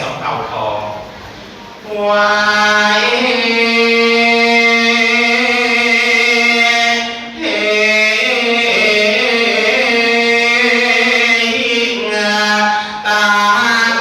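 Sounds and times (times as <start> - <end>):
person chanting melodically: 1.8 - 14.0.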